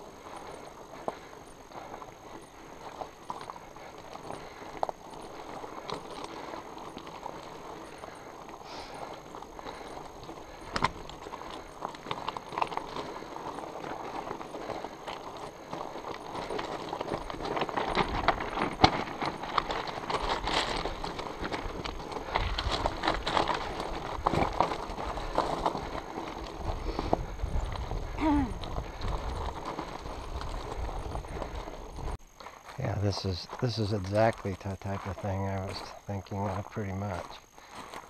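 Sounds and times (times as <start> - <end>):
bike rattling: 0.0 - 32.7
tyres crunching over gravel: 0.0 - 38.0.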